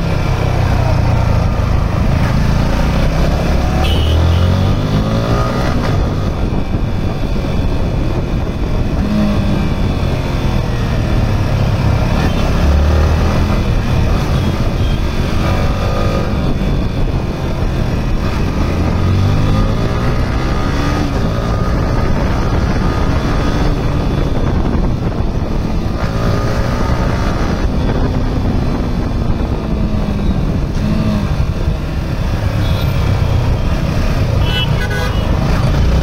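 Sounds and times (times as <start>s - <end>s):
motorcycle engine accelerating: 0.0s - 36.0s
wind rush: 4.5s - 36.0s.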